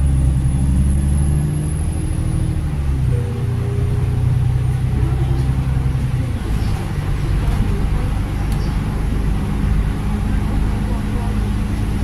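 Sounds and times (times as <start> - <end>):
bus engine and tyre drone: 0.0 - 12.0.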